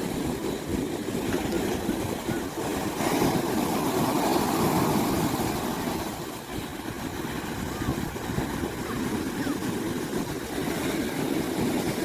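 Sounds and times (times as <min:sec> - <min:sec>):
sea rushing: 0:00.0 - 0:12.0
wind: 0:00.0 - 0:12.0.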